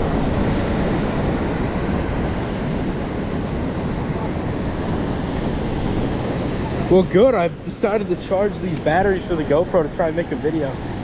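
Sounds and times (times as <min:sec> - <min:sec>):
fast-flowing river rushing: 0:00.0 - 0:11.0.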